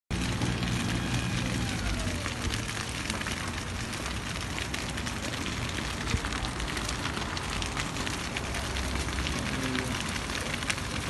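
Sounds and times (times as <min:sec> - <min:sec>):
brush fire crackling: 0:00.1 - 0:11.0.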